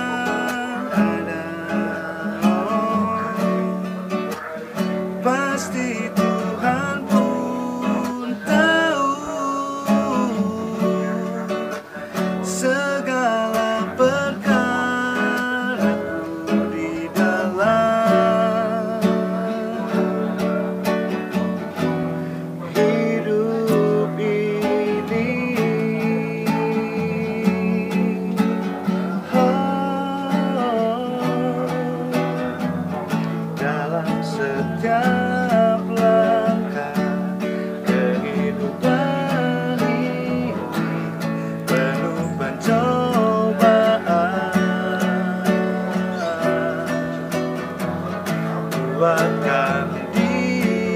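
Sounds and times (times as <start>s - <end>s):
acoustic guitar strumming: 0.0s - 50.9s
man singing: 0.0s - 50.9s.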